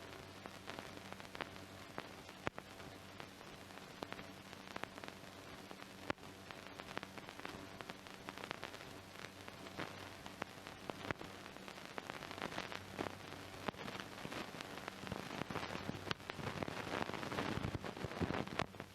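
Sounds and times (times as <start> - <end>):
film hiss with crackles and pops: 0.0 - 18.9
low steady hum: 0.0 - 18.9.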